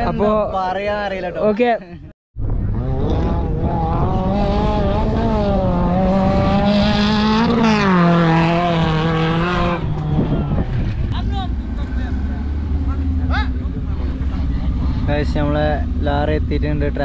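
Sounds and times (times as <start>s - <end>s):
engine revving hard: 2.6s - 16.8s.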